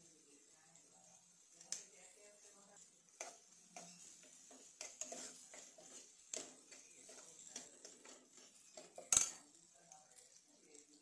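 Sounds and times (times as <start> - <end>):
onions sizzling in oil: 0.0 - 11.0
spoon scraping nonstick pan: 0.8 - 11.0.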